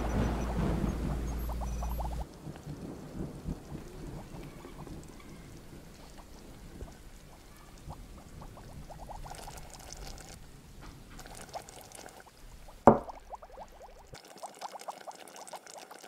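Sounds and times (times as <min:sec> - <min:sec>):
small bubble plops: 0:00.0 - 0:10.4, 0:11.1 - 0:16.0
liquid bubbling and pouring: 0:00.0 - 0:10.5, 0:11.1 - 0:16.0
light fizz: 0:00.0 - 0:16.0.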